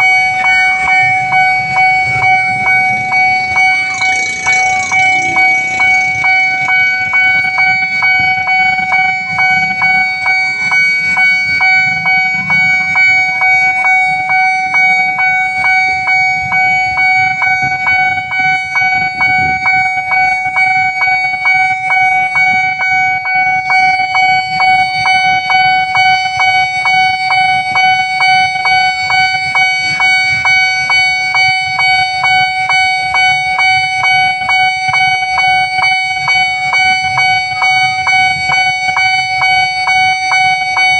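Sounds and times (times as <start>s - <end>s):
level-crossing warning alarm: 0.0s - 40.9s.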